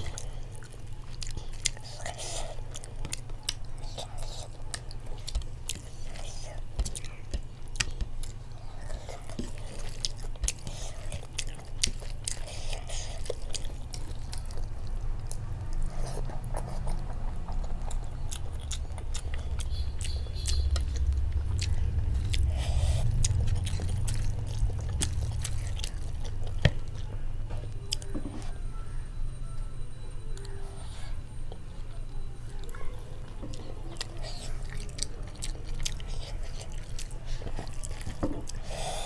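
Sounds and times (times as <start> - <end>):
person chewing: 0.0 - 28.6, 30.3 - 39.0.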